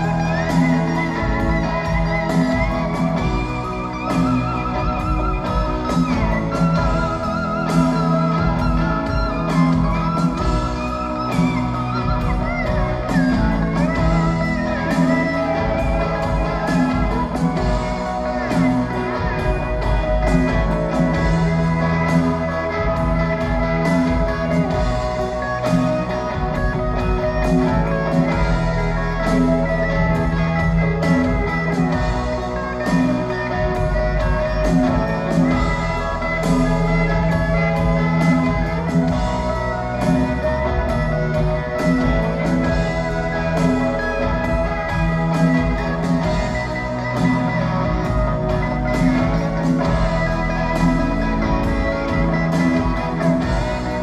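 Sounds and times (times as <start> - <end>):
rock band playing instrumental: 0.0 - 54.0.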